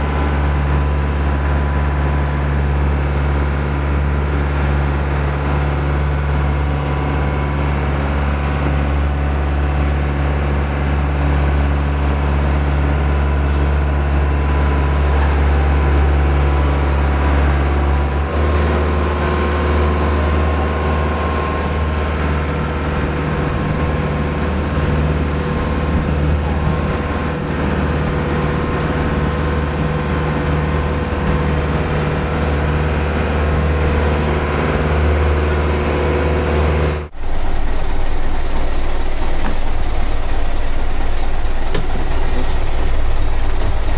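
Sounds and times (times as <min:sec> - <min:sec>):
motorboat engine droning: 0:00.0 - 0:43.9
water and wind rushing: 0:00.0 - 0:43.9.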